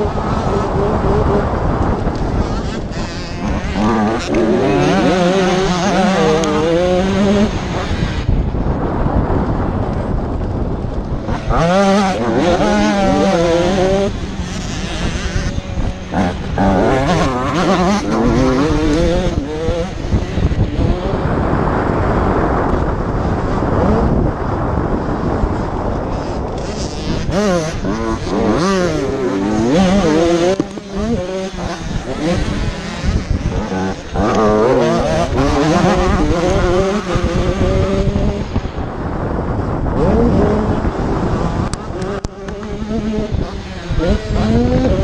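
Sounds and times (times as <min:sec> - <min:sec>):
motocross bike engine revving: 0:00.0 - 0:45.0
wind rumble on microphone: 0:00.0 - 0:45.0.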